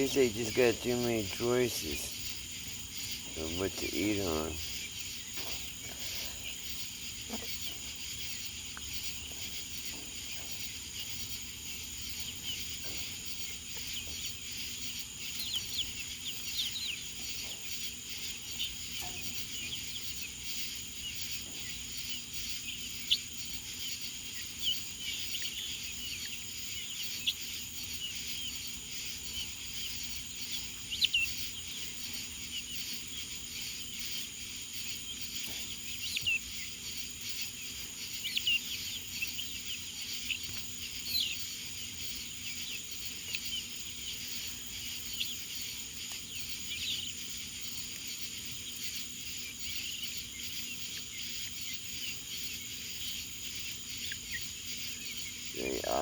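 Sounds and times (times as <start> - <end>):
birds chirping: 0.0 - 56.0
high buzz of insects: 0.0 - 56.0.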